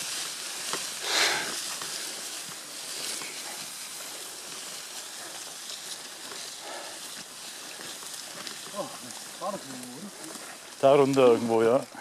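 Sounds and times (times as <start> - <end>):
branches dragged over forest floor: 0.0 - 12.0
twigs crackling: 0.0 - 12.0.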